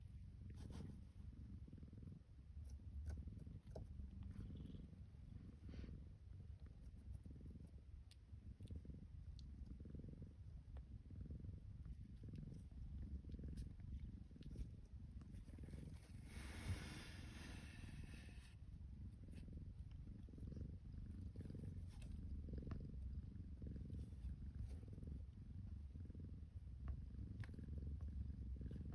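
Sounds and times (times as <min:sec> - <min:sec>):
kitten purring: 0:00.0 - 0:28.9.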